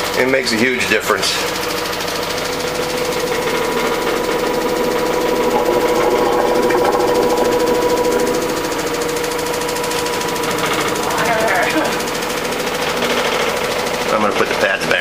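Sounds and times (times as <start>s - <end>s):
washing machine humming and rattling: 0.0s - 15.0s.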